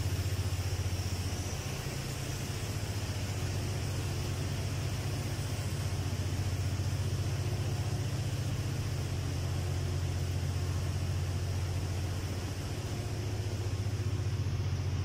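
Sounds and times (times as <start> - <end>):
constant hiss: 0.0 - 15.0
low machinery hum: 0.0 - 15.0.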